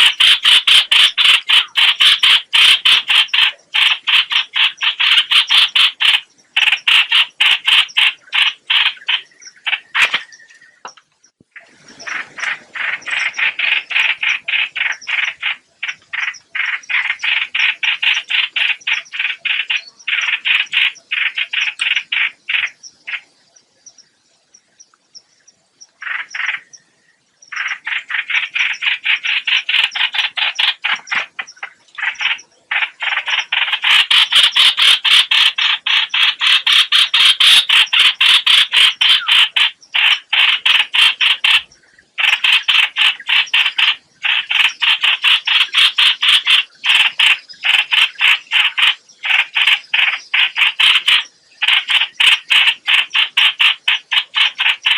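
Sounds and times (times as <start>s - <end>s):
bird harsh chattering call: 0.0s - 10.9s, 11.6s - 23.3s, 26.0s - 26.9s, 27.5s - 54.9s.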